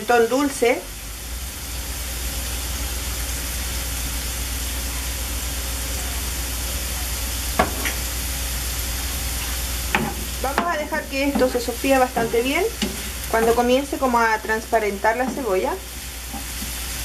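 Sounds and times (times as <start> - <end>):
onion sizzling in a frying pan: 0.0 - 17.0.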